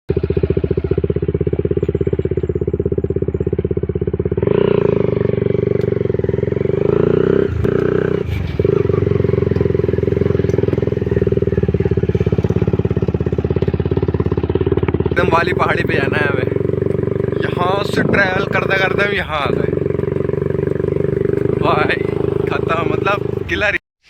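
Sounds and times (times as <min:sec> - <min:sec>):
motorcycle engine running: 0:00.1 - 0:23.8.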